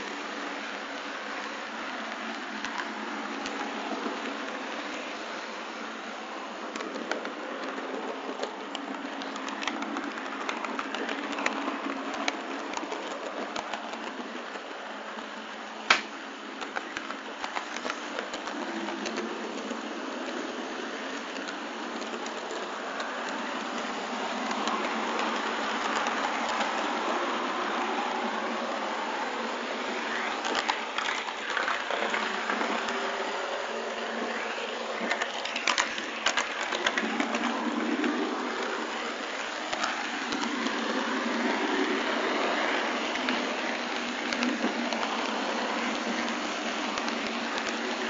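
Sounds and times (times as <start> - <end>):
model train rolling rattle: 6.6 - 28.6, 29.3 - 48.0.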